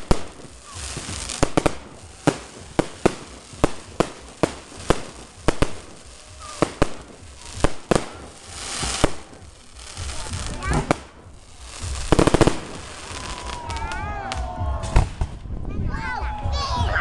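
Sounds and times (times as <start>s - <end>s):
firework hissing rush: 0.0s - 14.0s
firework bangs: 0.0s - 15.5s.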